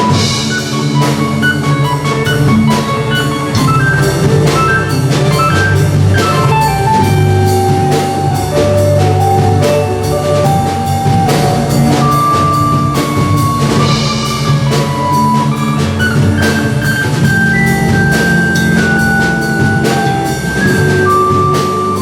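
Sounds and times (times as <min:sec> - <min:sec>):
band music: 0:00.0 - 0:22.0
bass line: 0:00.0 - 0:22.0
drum kit beat: 0:00.0 - 0:22.0.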